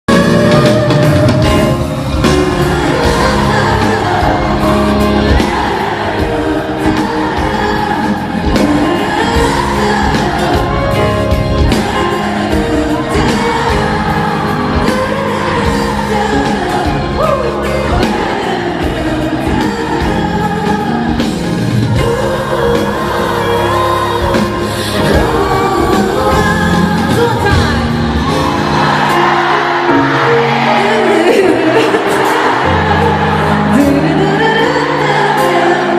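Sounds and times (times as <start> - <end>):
full band playing pop music: 0.0 - 35.9
woman singing: 0.1 - 29.0, 30.7 - 35.9.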